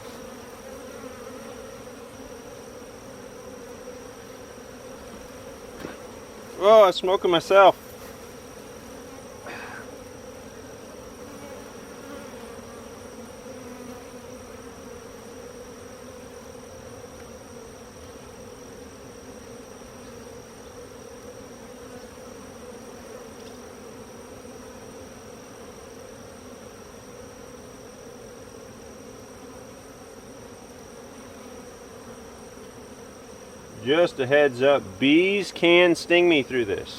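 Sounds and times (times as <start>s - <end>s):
honeybees buzzing: 0.0s - 36.9s.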